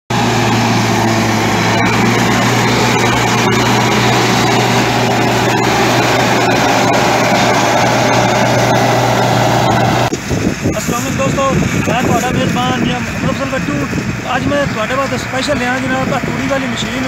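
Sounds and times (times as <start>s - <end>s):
tractor and reaper drone: 0.1s - 17.0s.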